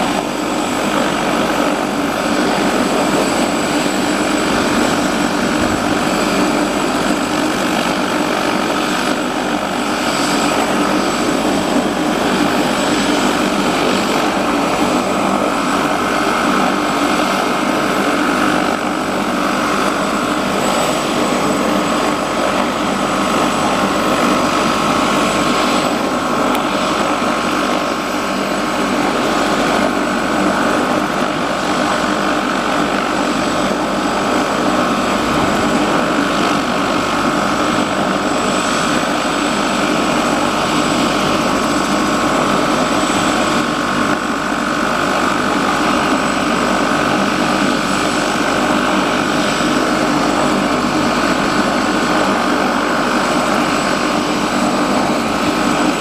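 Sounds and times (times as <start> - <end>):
helicopter turbine whine: 0.0 - 56.0.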